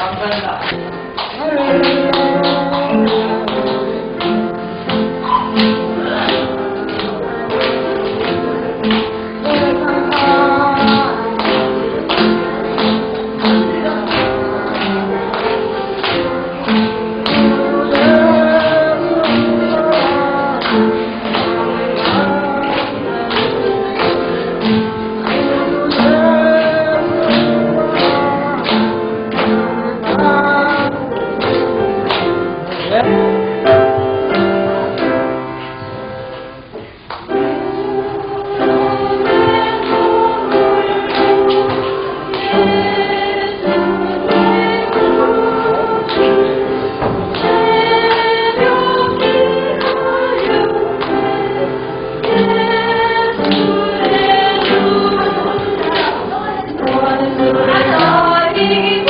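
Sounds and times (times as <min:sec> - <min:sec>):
voices singing: 0:01.3 - 0:35.4, 0:37.3 - 0:59.0.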